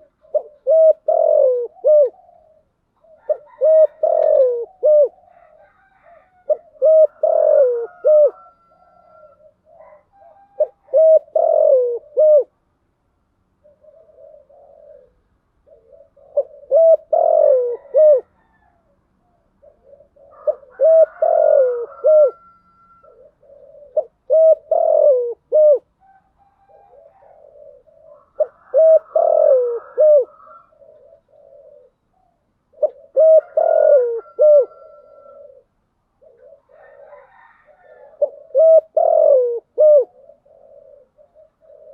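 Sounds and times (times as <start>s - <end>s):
soft low coos: 0.0s - 12.5s, 13.6s - 32.1s, 32.7s - 41.9s
dove cooing: 0.0s - 12.6s, 13.6s - 41.9s.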